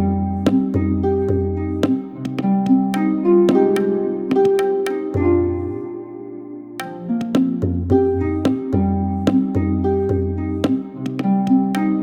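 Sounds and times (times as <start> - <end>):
plucked string melody: 0.0 - 12.0.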